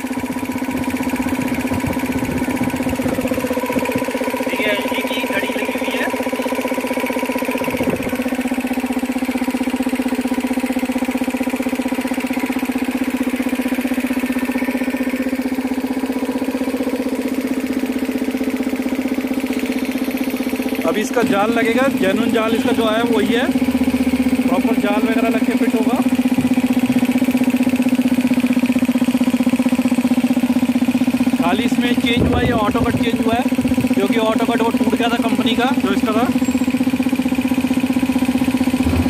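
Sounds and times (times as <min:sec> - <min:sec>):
air compressor pumping: 0:00.0 - 0:39.0.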